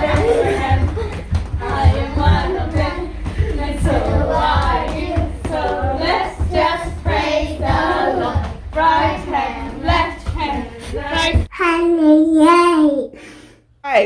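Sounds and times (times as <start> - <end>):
low thumps: 0.0 - 11.5.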